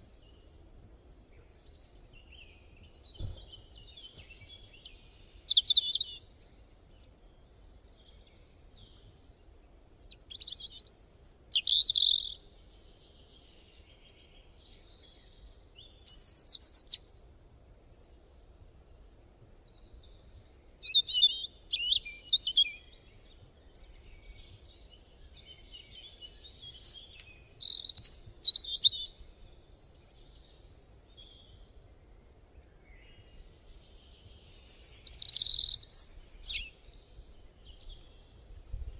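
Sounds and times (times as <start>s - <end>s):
birds singing and chirping: 1.1s - 6.7s, 10.0s - 17.0s, 19.3s - 31.7s, 32.6s - 38.9s.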